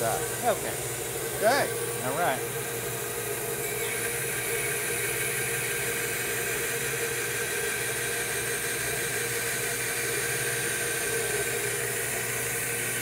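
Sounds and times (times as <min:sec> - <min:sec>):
bandsaw motor hum: 0:00.0 - 0:13.0.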